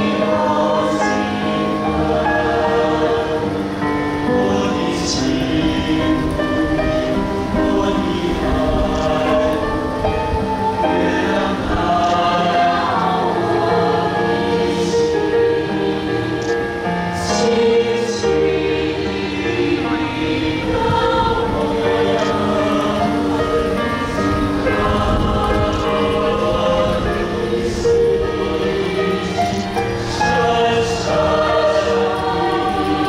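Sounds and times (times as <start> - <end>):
choir singing sustained chords: 0.0 - 33.0.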